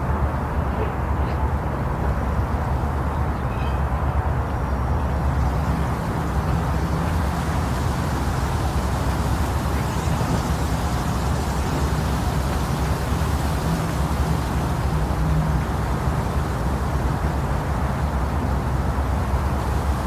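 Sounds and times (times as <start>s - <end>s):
low rumbling hiss: 0.0s - 20.0s.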